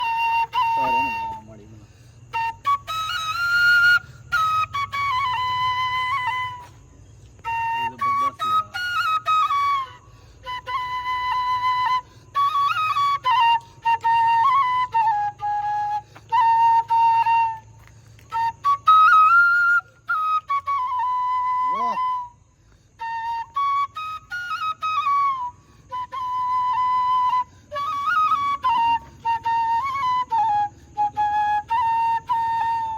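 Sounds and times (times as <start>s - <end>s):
flute playing slow melody: 0.0s - 32.9s.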